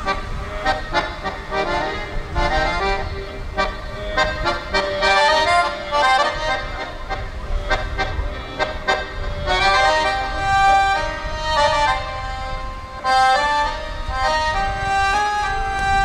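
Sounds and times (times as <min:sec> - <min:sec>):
piano accordion melody: 0:00.0 - 0:16.0.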